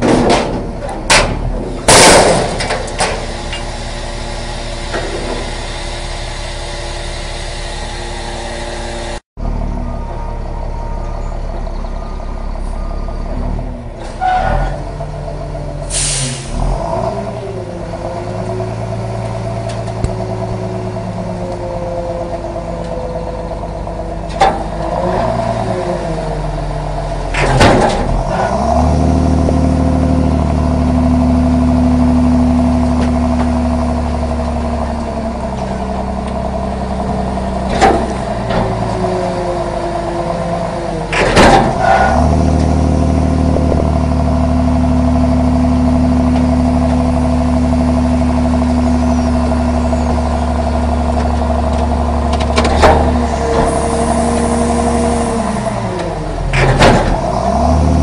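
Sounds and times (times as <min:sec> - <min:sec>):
trash compactor humming: 0:00.0 - 0:58.0.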